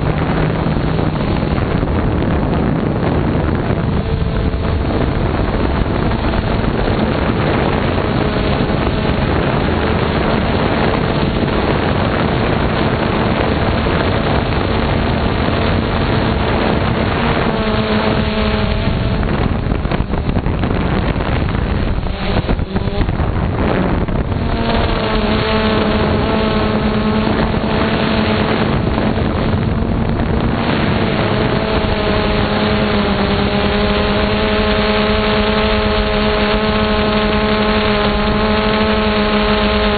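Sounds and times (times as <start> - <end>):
propeller motor droning: 0.0 - 39.9
wind rushing past microphone: 0.0 - 39.9.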